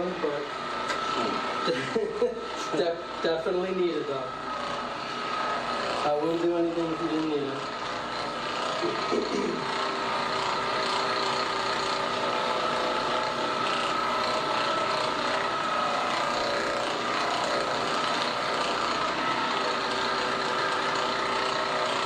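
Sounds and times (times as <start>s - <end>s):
electric massager humming: 0.0s - 22.0s.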